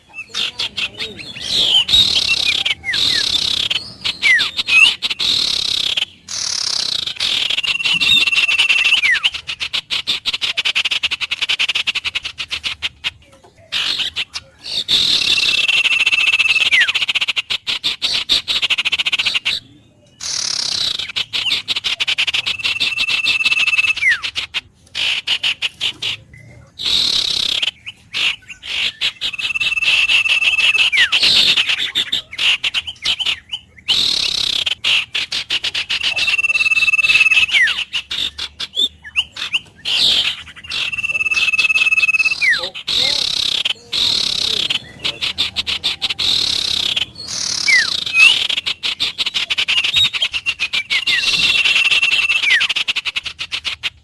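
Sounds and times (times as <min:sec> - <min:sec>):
wild birds chirping and trilling: 0:00.0 - 0:54.0.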